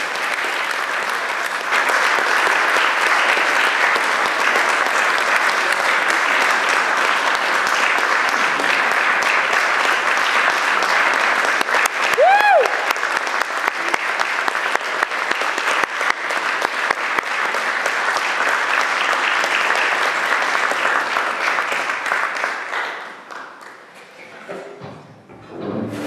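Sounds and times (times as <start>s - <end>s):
audience applauding: 0.0s - 23.9s.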